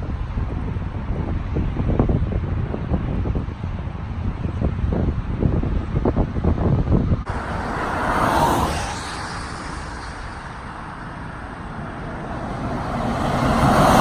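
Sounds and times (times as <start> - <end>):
vehicles passing on highway: 0.0 - 14.0.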